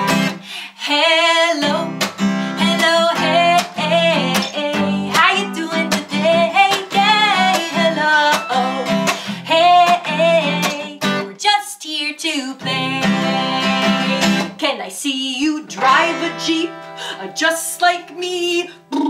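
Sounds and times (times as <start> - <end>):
acoustic guitar strumming: 0.0 - 0.4, 1.2 - 11.3, 12.6 - 14.6, 15.6 - 18.7
woman singing: 0.0 - 19.0.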